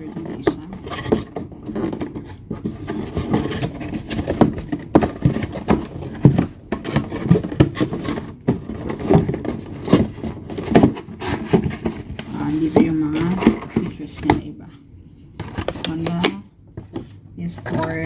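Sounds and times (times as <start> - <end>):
packaging rustling: 0.0 - 14.5
plastic attachments knocking and clicking: 0.0 - 14.5, 15.4 - 18.0.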